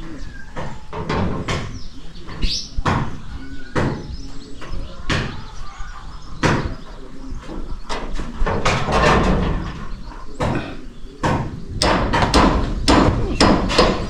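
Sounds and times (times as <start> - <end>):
sharp knocks or bangs: 0.5 - 5.6, 6.3 - 14.0.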